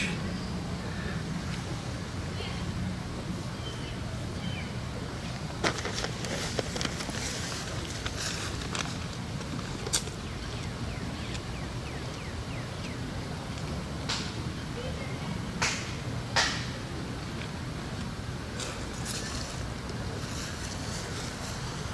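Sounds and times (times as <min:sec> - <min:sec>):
low outdoor rumble: 0:00.0 - 0:21.9.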